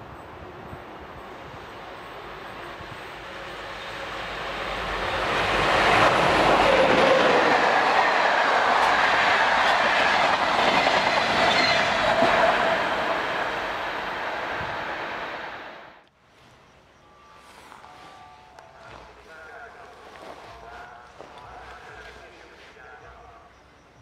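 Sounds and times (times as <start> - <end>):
train passing close by: 0.0 - 24.0.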